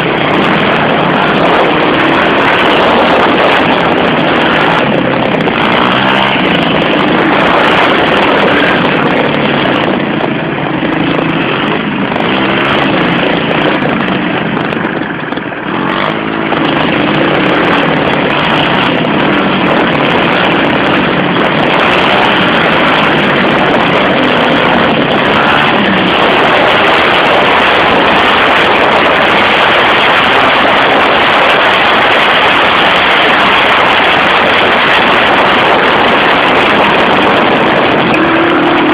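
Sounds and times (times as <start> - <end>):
motorbike engine running hard: 0.0 - 38.9.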